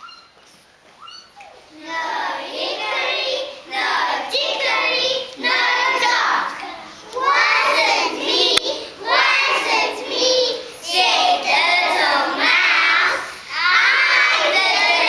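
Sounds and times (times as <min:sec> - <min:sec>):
children singing together: 0:01.7 - 0:15.0.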